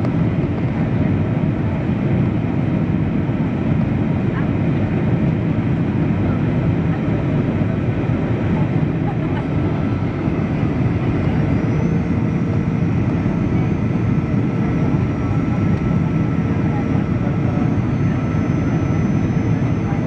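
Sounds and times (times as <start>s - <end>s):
airplane cabin engine drone: 0.0s - 20.0s.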